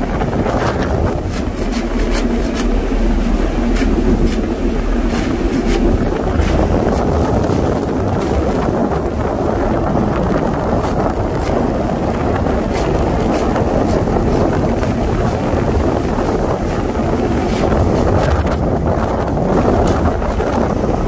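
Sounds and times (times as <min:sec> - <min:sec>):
loud rumbling inside tower: 0:00.0 - 0:21.0.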